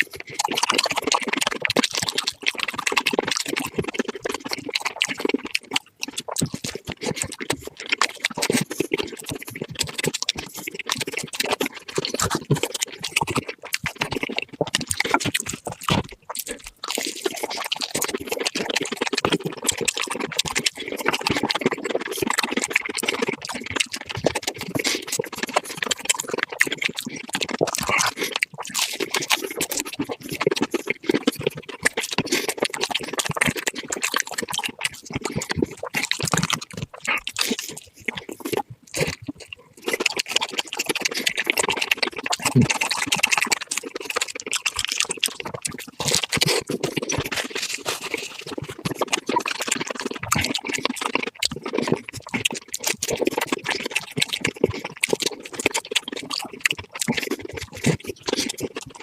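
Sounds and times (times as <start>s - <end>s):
crunching and chewing food: 0.0s - 59.0s.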